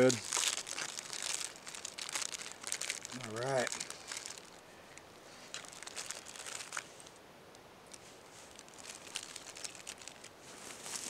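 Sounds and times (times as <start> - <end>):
cellophane wrapper crinkling: 0.0 - 7.2, 7.9 - 11.0.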